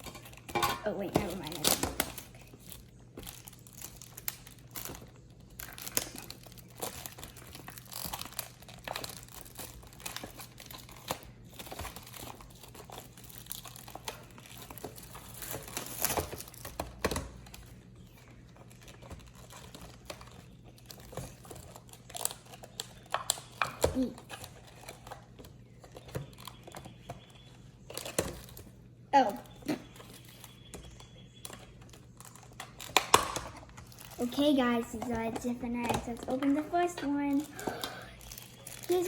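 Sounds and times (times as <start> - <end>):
packaging crinkling and tearing: 1.4 - 39.0.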